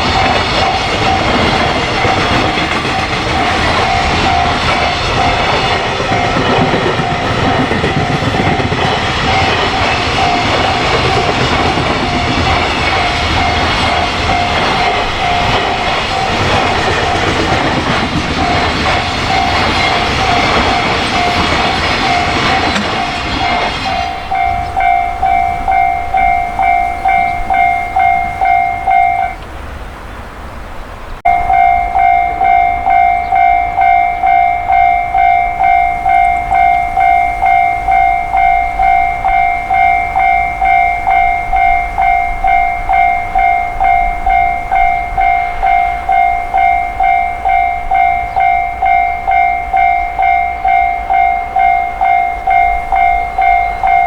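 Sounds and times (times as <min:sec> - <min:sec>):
level crossing alarm ringing: 0:00.0 - 0:29.5, 0:31.2 - 0:54.0.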